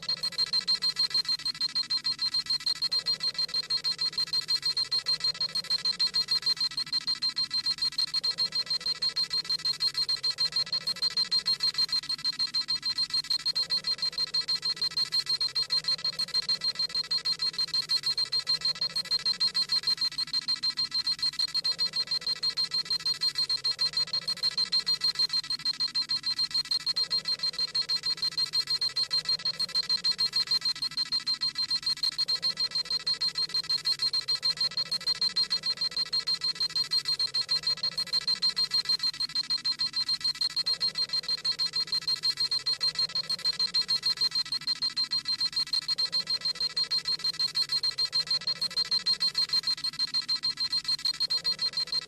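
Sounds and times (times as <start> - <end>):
rapid high electronic beeping: 0.0 - 52.0.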